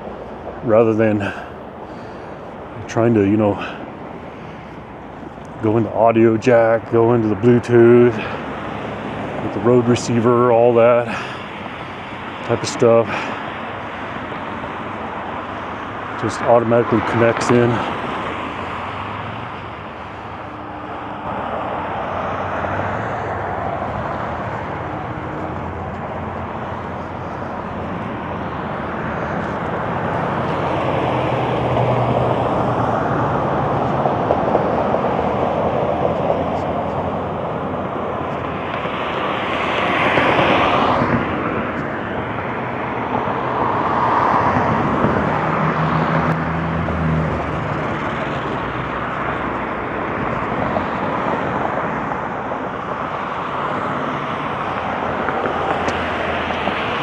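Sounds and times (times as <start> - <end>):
cars passing by: 0.0 - 57.0.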